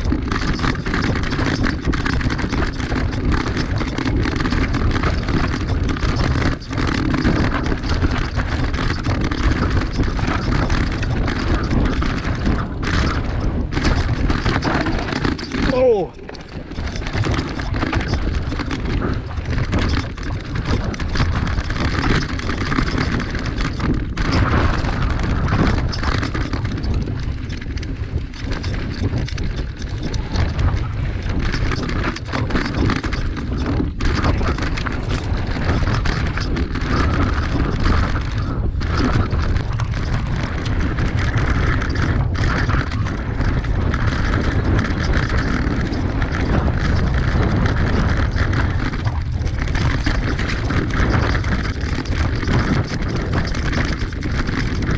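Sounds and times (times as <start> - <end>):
bike rattling and knocking: 0.0 - 54.9
tyres rolling over dirt and stones: 0.0 - 54.9
wind on microphone: 0.0 - 54.9.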